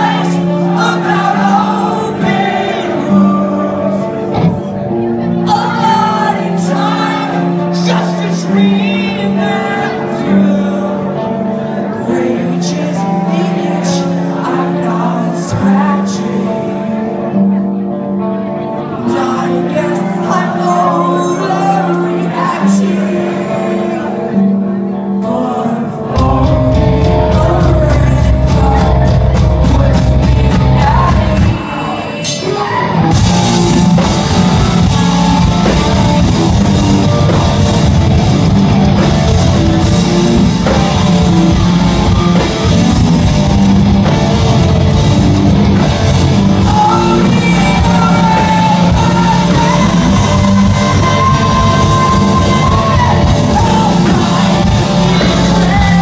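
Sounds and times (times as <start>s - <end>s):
sung and shouted vocals: 0.0s - 17.6s, 18.8s - 44.2s, 45.6s - 56.0s
rock band playing live: 0.0s - 56.0s.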